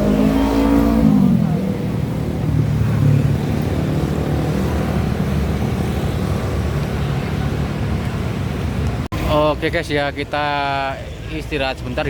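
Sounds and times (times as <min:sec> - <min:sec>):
large vehicle engine rumbling: 0:00.0 - 0:12.0
road traffic noise: 0:00.0 - 0:12.0.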